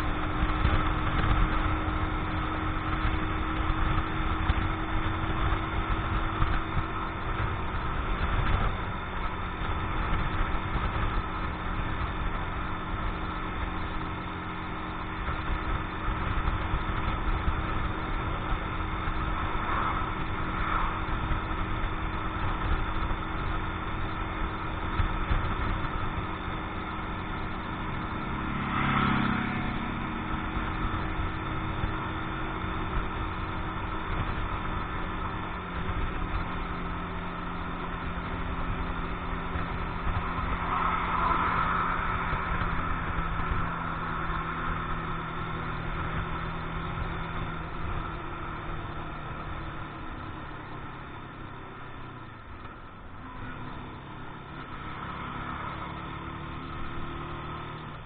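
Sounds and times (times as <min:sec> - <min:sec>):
motorcycle engine cruising: 0:00.0 - 0:58.0
wind rumbling on microphone: 0:00.0 - 0:58.0.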